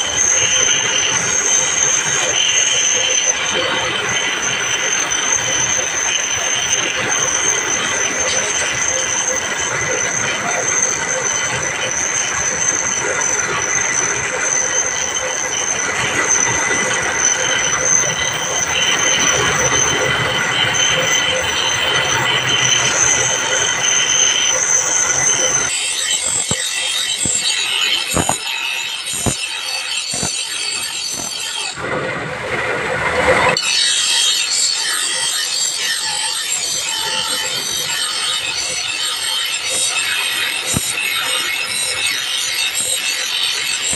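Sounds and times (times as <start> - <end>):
grinding wheel screeching on steel: 0.0 - 43.9.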